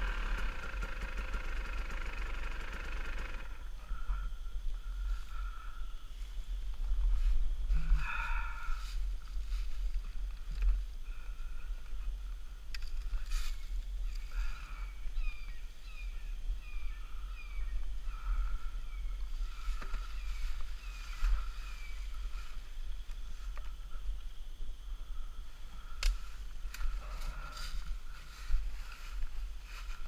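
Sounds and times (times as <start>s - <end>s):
handling rumble: 0.0s - 30.0s.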